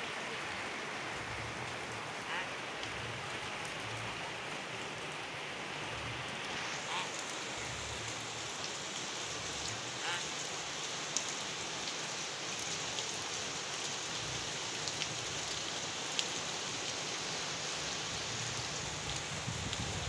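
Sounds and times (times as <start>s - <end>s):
rain on gravel: 0.0s - 20.0s.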